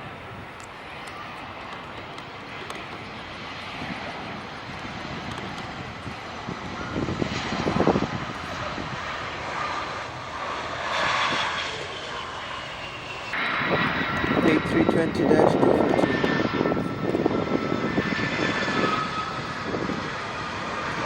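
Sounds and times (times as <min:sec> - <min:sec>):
jet airliner engines roaring: 0:00.0 - 0:21.0.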